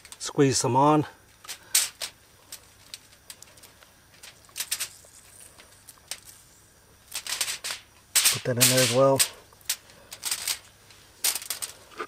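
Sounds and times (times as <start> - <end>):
aluminium foil crinkling: 1.4 - 12.0.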